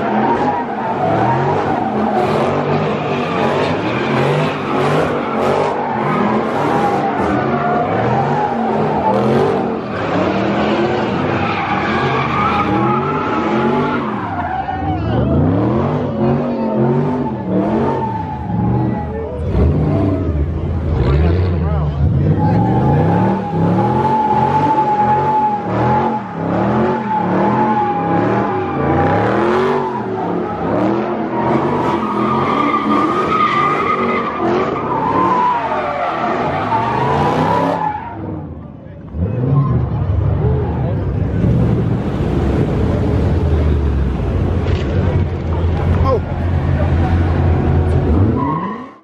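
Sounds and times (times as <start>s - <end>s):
car engine revving: 0.0s - 49.0s
tires squealing: 0.0s - 49.0s.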